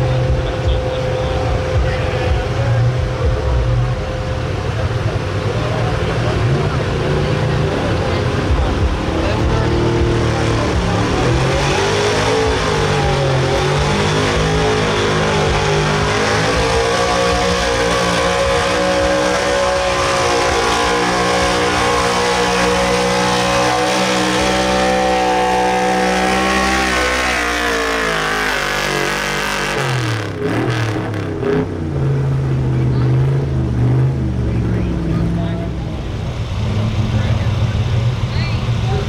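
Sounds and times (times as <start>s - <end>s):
truck engine at high revs: 0.0s - 39.0s.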